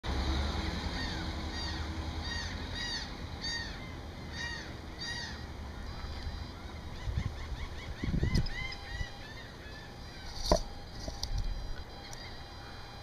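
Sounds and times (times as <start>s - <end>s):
truck rumbling: 0.1s - 13.0s
birds calling: 0.2s - 13.0s.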